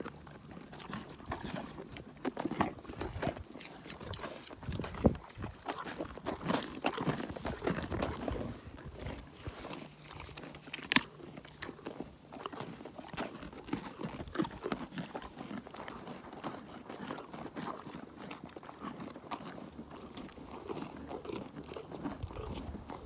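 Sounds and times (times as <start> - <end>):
alpacas crunching carrots: 0.0 - 23.0.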